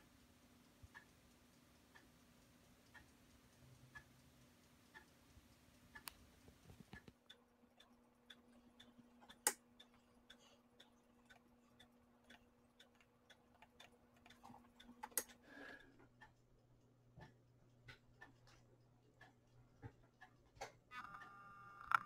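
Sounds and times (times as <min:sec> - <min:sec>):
faint regular ticking: 0:00.0 - 0:22.0
faint steady hum: 0:00.0 - 0:22.0.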